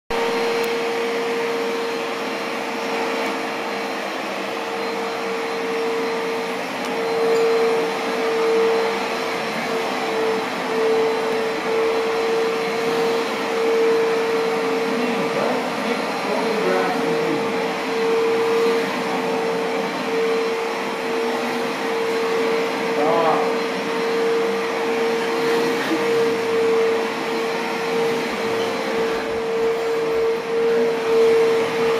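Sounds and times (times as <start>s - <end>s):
vacuum cleaner running: 0.1s - 31.9s.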